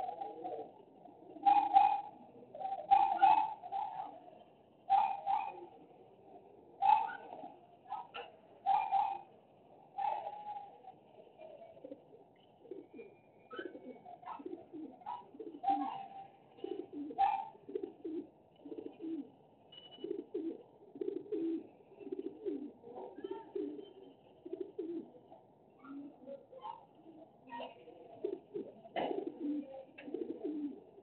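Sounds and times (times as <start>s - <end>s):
bird cooing: 0.0s - 31.0s.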